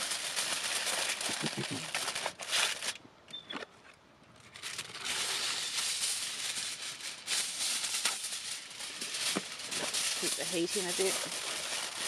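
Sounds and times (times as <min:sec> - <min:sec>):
aluminium foil crinkling: 0:00.0 - 0:03.0, 0:04.4 - 0:12.0.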